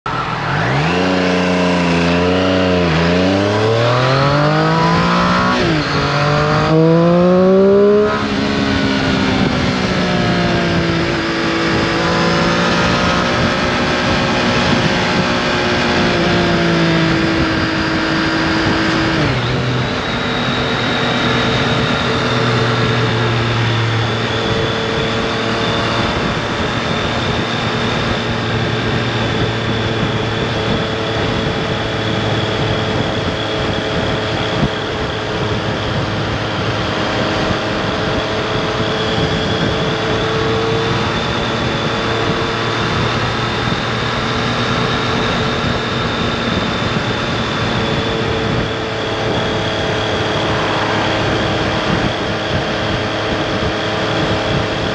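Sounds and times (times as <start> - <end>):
motorcycle engine revving: 0.0 - 54.9
wind rush: 0.0 - 54.9.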